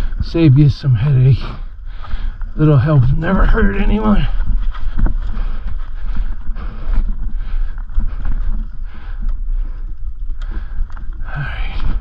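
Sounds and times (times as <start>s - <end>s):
bike rattling over stones: 0.0s - 12.0s
wind rumble on microphone: 0.0s - 12.0s.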